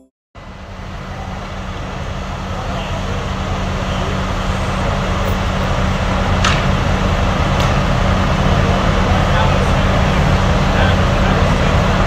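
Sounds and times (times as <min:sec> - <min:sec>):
fire engines droning: 0:00.4 - 0:12.0.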